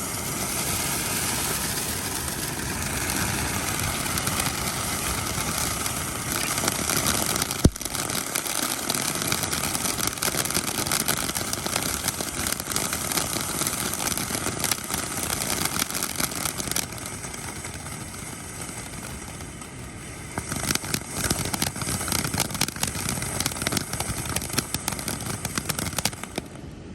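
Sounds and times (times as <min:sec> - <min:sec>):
firework bang: 0:00.0 - 0:26.6
fireworks crackling hiss: 0:00.0 - 0:26.9.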